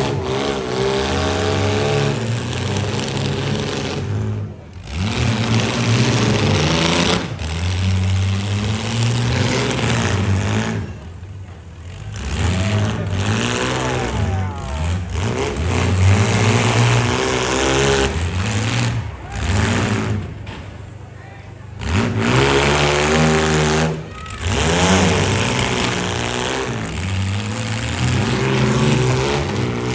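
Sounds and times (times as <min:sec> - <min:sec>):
car engines revving hard: 0:00.0 - 0:29.9.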